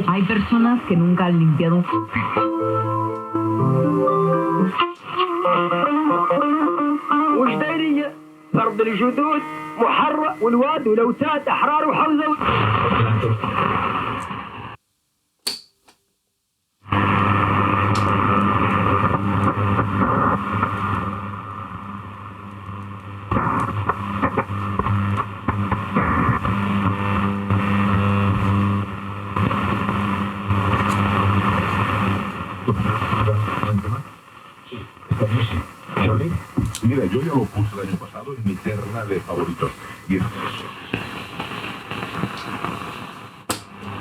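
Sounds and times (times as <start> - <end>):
radio buzzing tone with hiss: 0.0 - 14.8, 16.8 - 44.0.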